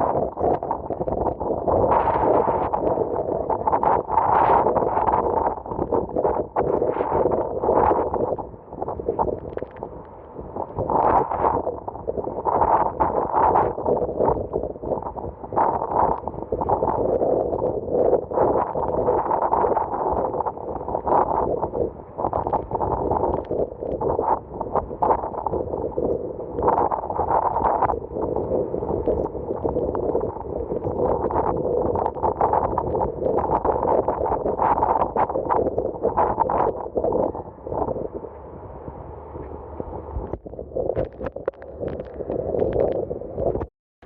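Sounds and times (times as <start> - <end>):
rough sea: 0.0 - 43.7
storm wind: 0.0 - 43.7
wind buffeting microphone: 0.0 - 43.7.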